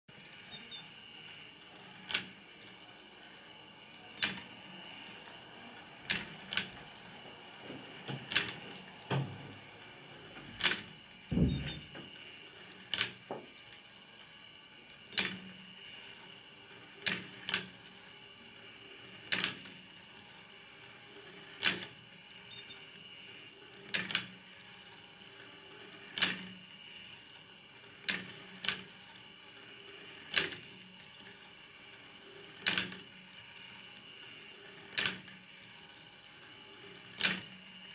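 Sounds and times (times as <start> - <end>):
motor and chain lift humming: 0.1 - 37.9.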